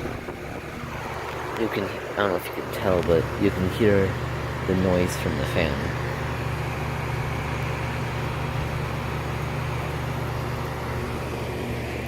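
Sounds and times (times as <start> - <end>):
compressor low hum: 0.0 - 12.0
condenser fan whoosh: 0.0 - 12.0.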